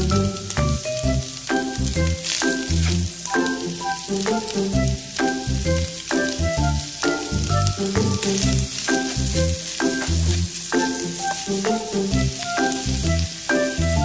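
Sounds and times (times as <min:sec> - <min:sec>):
music with steady bass beat: 0:00.0 - 0:14.0
spatula stirring in a wok: 0:00.0 - 0:14.0
vegetables sizzling in a wok: 0:00.0 - 0:14.0.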